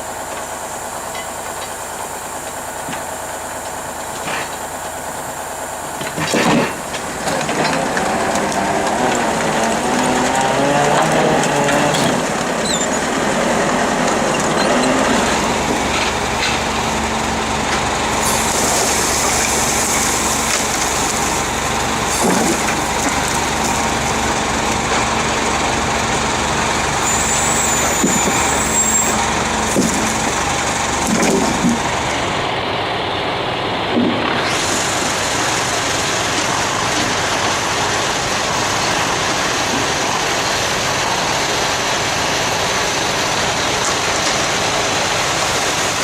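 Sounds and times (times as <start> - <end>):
engine running: 0.0 - 46.0.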